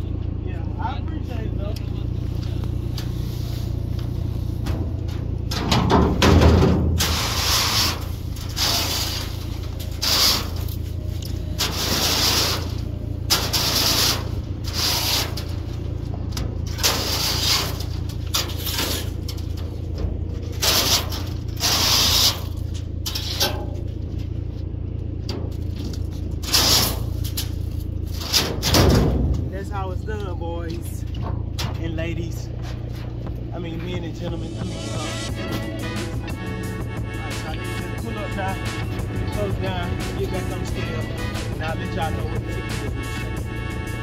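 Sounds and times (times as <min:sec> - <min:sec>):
low engine hum: 0:00.0 - 0:44.0
rake scraping metal floor: 0:02.8 - 0:24.4, 0:25.3 - 0:29.7, 0:31.0 - 0:44.0.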